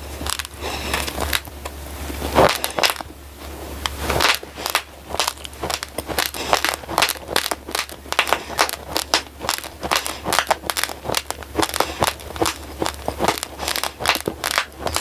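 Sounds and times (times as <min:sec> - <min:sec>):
rice grains crunching while chewed: 0:00.0 - 0:15.0.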